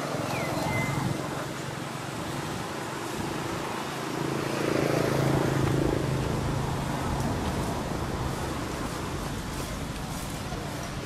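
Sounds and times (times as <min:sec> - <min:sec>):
outdoor background noise: 0:00.0 - 0:11.0
passing vehicle engine hum: 0:00.0 - 0:11.0.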